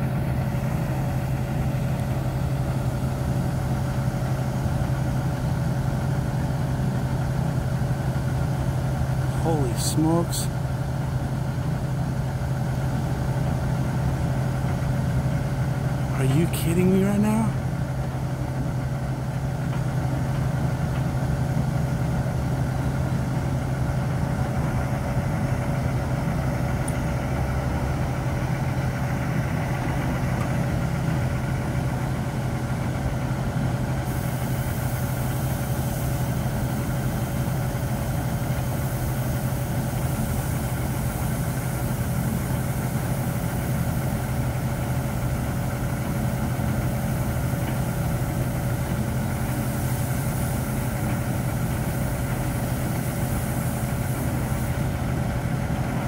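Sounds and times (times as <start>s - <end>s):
constant higher hum: 0.0s - 56.0s
low machinery drone: 0.0s - 56.0s.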